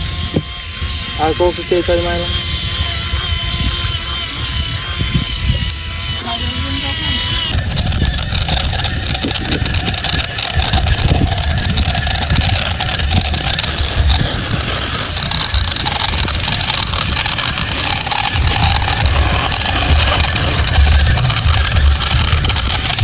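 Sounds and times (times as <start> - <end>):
model truck electric whine: 0.0 - 23.0
model truck rumbling with low knocks: 2.0 - 23.0.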